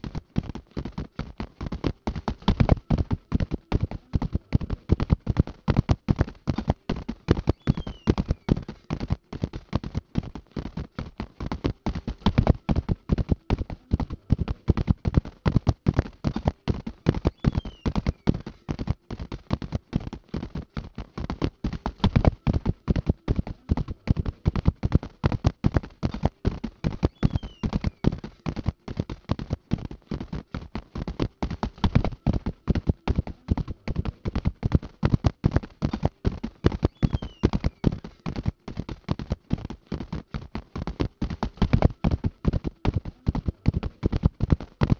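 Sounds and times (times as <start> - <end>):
horse hooves galloping on turf: 0.0 - 44.9.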